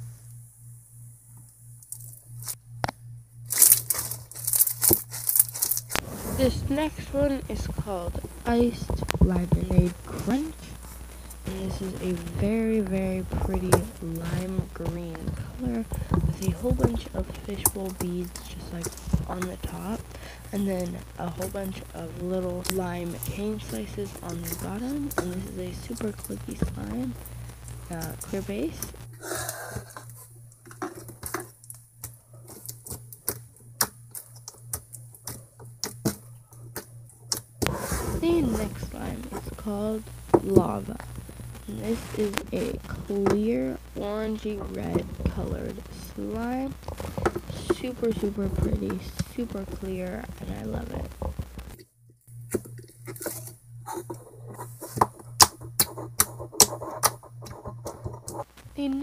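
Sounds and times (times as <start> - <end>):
slime squelching and crackling: 3.5 - 51.8, 52.4 - 59.0.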